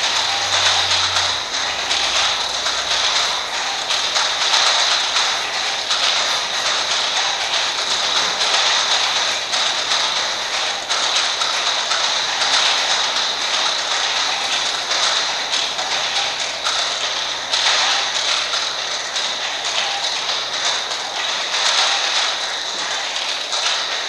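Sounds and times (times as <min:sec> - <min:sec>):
clock mechanisms ticking: 0:00.0 - 0:24.0.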